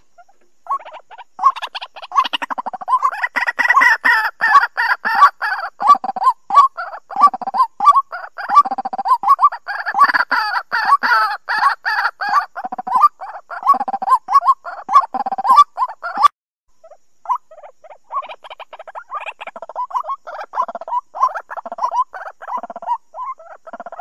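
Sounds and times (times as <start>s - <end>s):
bird calling rapidly: 0.0s - 24.0s.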